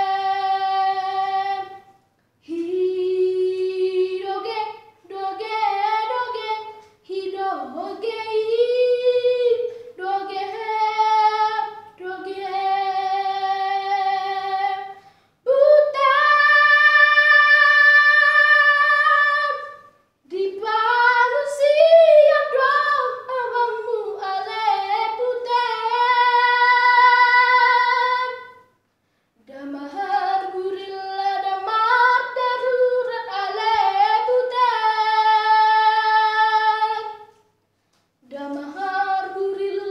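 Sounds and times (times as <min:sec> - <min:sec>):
boy singing: 0:00.0 - 0:28.6, 0:29.4 - 0:37.4, 0:38.2 - 0:39.9.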